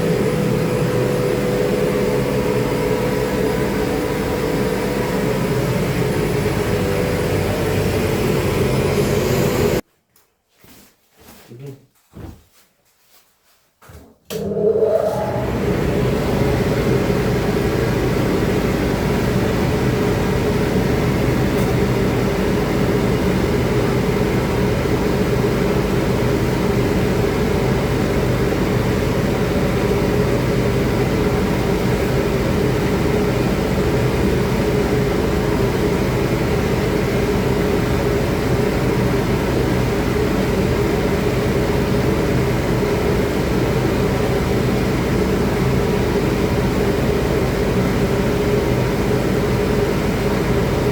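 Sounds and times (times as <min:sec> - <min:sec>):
electric fan motor humming: 0:00.0 - 0:09.8, 0:14.4 - 0:50.9.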